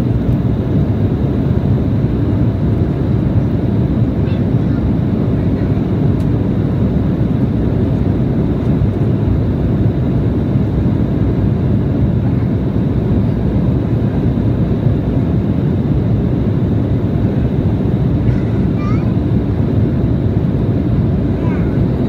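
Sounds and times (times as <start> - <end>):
jet cabin engine drone: 0.0 - 22.0.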